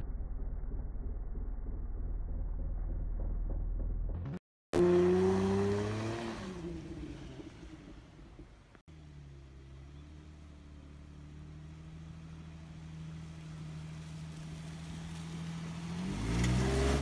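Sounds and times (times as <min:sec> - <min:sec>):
suv engine running and revving: 0:00.6 - 0:17.0.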